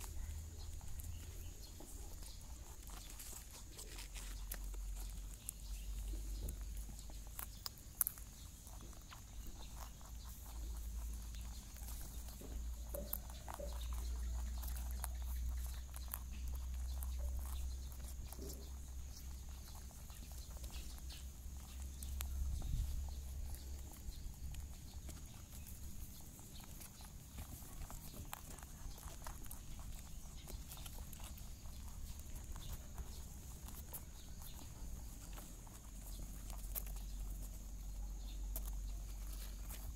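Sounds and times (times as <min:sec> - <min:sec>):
baby rabbits scrabbling and rustling: 0:00.0 - 0:39.9.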